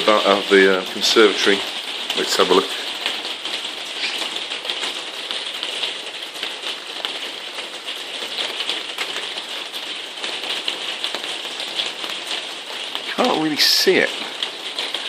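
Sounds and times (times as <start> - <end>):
heavy rain drumming on a roof: 0.0 - 15.0.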